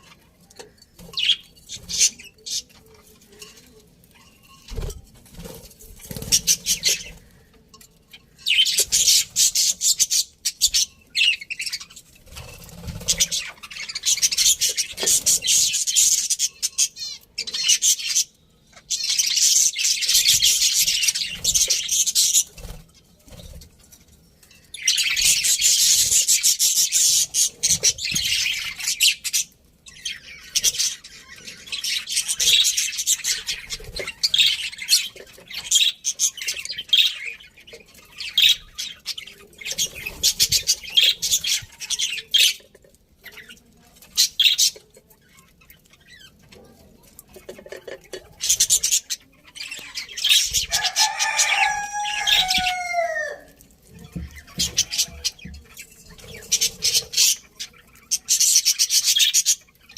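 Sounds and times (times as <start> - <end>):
budgerigars chirping and chattering: 0.0 - 23.8, 24.4 - 59.9.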